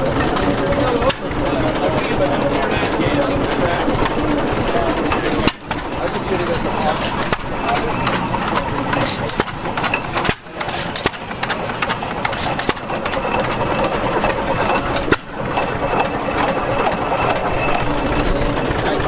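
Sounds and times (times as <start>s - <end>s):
old engines running: 0.0s - 19.0s
sharp mechanical clicks and knocks: 0.0s - 19.0s.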